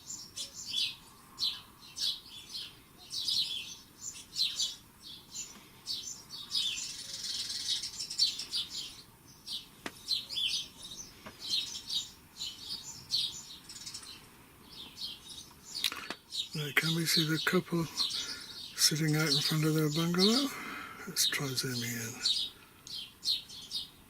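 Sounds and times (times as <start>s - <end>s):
small birds twittering: 0.0s - 24.0s.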